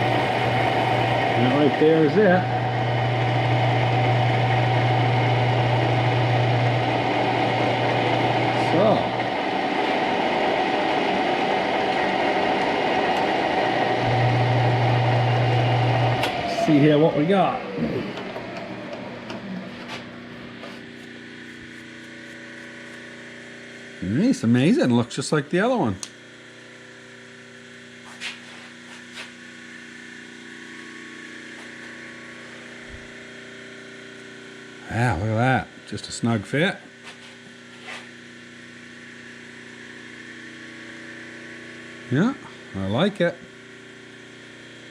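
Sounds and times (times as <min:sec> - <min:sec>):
deeper mechanical hum: 0:00.0 - 0:44.9.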